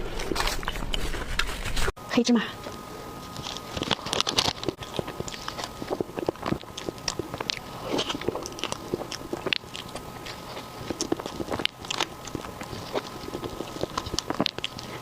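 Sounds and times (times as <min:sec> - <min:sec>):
person chewing food: 0:02.7 - 0:15.0.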